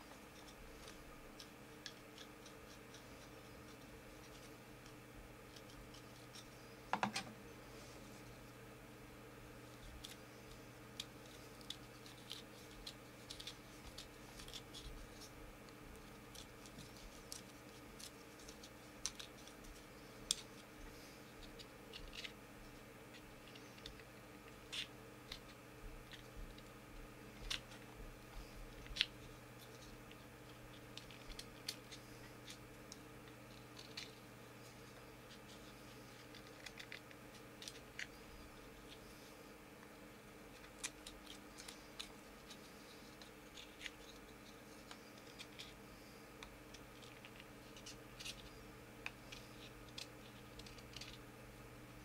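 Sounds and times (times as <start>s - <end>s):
small clicks and scratches of handling: 0.0s - 7.3s, 9.6s - 51.3s
steady low hum: 0.0s - 52.0s.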